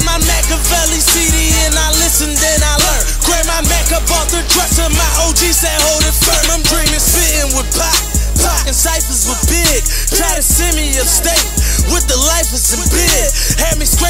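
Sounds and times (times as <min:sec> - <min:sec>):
drum beat: 0:00.0 - 0:14.0
heavy bass line: 0:00.0 - 0:14.0
rapping over a beat: 0:00.0 - 0:14.0.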